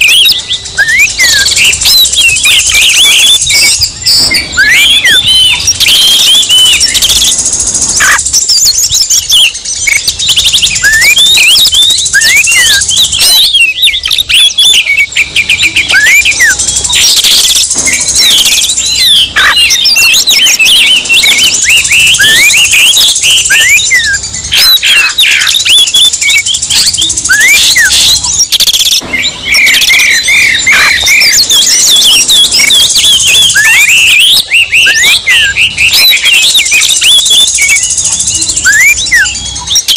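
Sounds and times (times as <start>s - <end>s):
songbirds singing rapid whistles: 0.0s - 39.9s.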